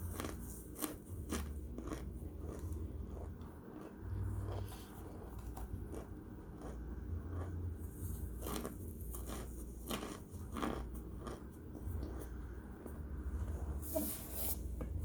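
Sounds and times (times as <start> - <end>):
person chewing crunchy chunks: 0.0 - 12.9.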